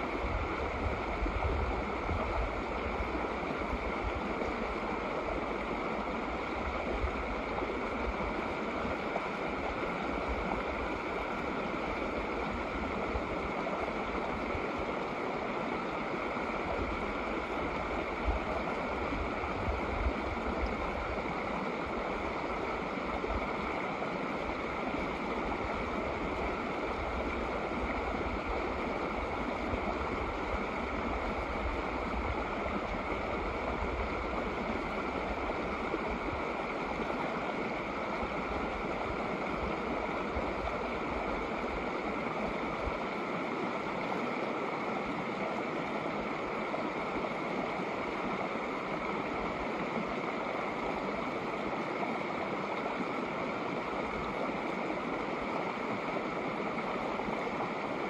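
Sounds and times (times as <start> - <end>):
creek babbling over rocks: 0.0 - 58.0.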